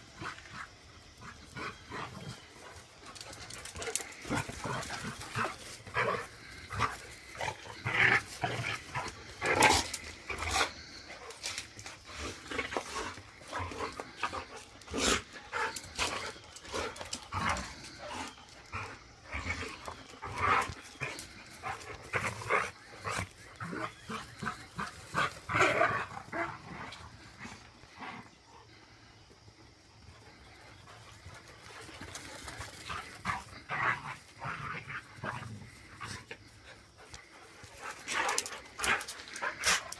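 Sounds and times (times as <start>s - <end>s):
dogs growling and barking: 0.0s - 29.0s, 30.3s - 39.9s.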